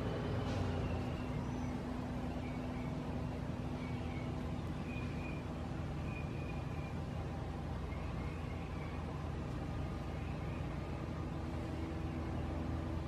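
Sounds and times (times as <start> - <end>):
faint steady hum: 0.0 - 13.0
low outdoor rumble: 0.0 - 13.0
high bird chirps: 0.7 - 12.6.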